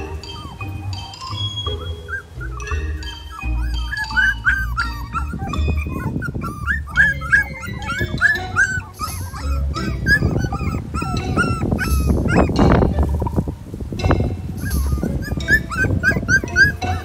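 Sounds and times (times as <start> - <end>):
puppies whimpering and squeaking: 0.0 - 17.0.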